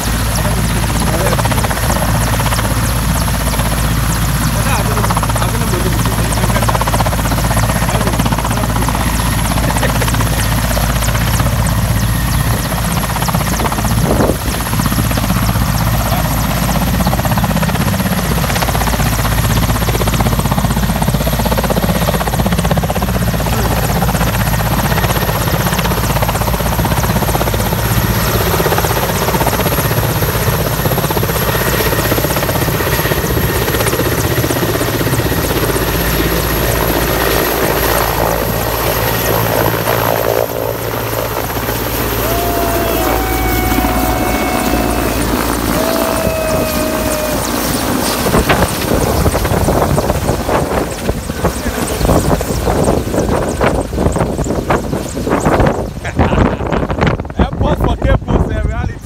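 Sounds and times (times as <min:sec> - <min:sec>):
helicopter rotor and turbines: 0:00.0 - 0:59.0.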